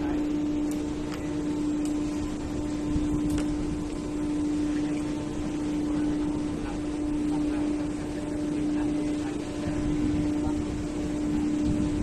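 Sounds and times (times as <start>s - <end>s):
constant noise bed: 0.0s - 12.0s
steady low hum: 0.0s - 12.0s.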